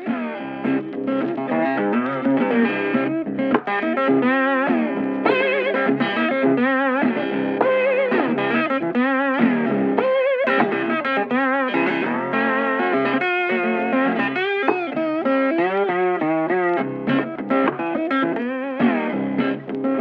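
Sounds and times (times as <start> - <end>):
electric guitar melody: 0.0 - 20.0.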